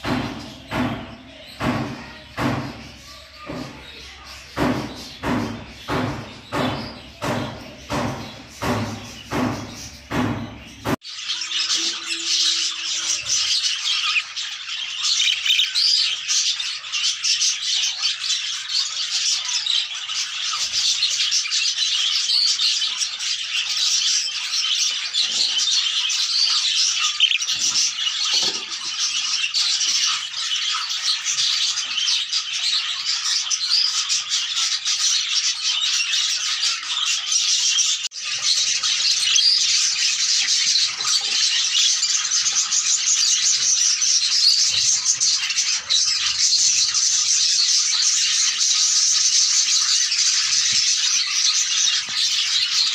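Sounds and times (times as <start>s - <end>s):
budgerigars chattering: 0.0s - 52.9s.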